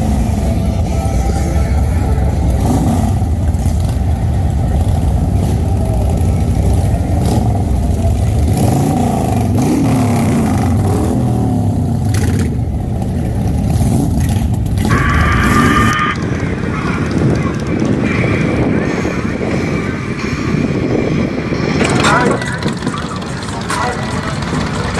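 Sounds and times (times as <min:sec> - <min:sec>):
motorcycle engines rumbling: 0:00.0 - 0:24.9.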